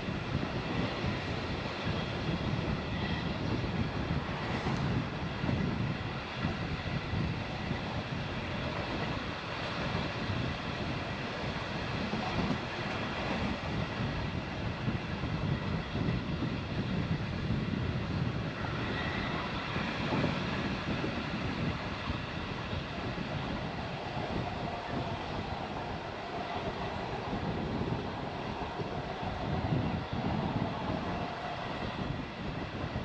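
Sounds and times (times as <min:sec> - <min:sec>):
rush of air: 0:00.0 - 0:33.0
train wheels rumbling on rail: 0:00.0 - 0:33.0.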